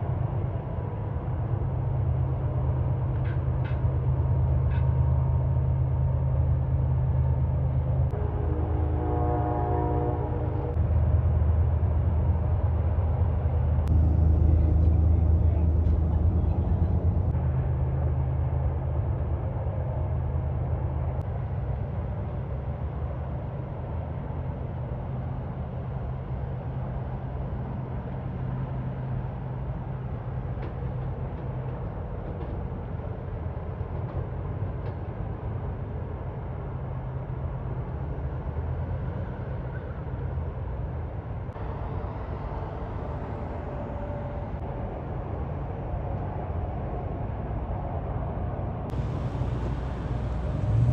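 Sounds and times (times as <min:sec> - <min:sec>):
heavy vehicle road noise: 0:00.0 - 0:50.9
low engine hum: 0:00.0 - 0:50.9.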